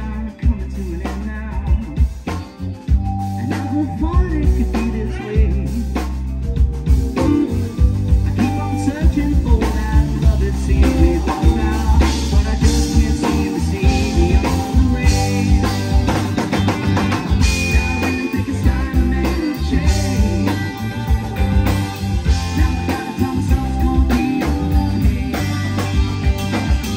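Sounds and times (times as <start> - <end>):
rock band playing live: 0.0 - 26.9.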